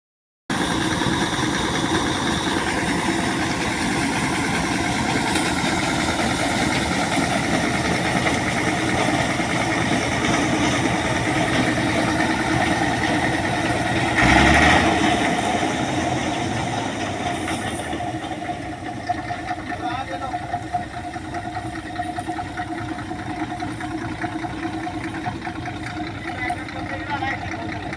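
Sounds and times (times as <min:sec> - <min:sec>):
harvesting machine droning: 0:00.5 - 0:27.9.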